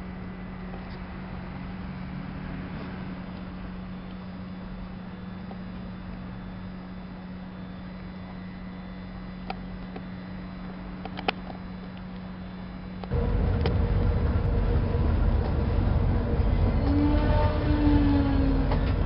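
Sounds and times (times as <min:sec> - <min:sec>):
diesel train idling hum: 0:00.0 - 0:19.0
moving train diesel rumble: 0:00.0 - 0:19.0.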